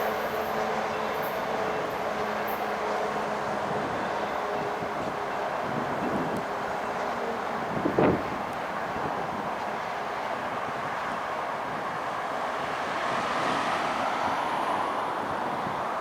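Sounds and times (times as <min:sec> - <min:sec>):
steady vehicle noise: 0:02.2 - 0:16.0.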